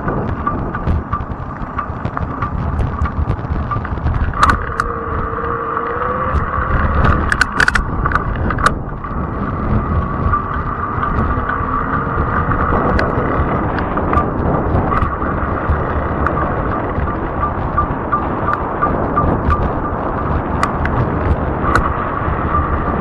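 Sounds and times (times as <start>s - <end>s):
e-bike motor whine: 0.0s - 23.0s
sharp clicks and rattles: 0.0s - 23.0s
tyre rumble: 0.0s - 23.0s
wind buffeting microphone: 0.0s - 23.0s.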